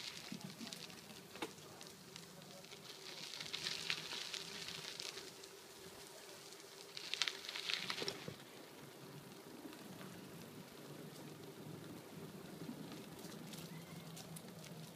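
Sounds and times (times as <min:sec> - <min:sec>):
bicycle tyres rolling over grit: 0:00.0 - 0:14.9
faint steady hum: 0:00.0 - 0:14.9.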